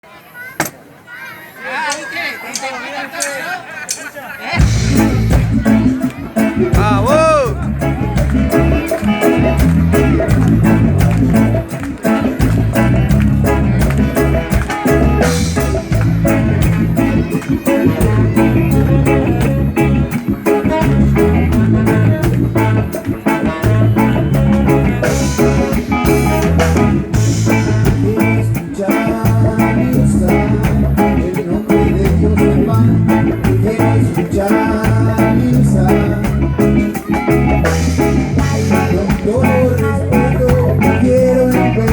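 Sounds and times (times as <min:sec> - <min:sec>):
live band playing: 0:01.9 - 0:41.9
bass guitar pulsing: 0:04.6 - 0:41.9.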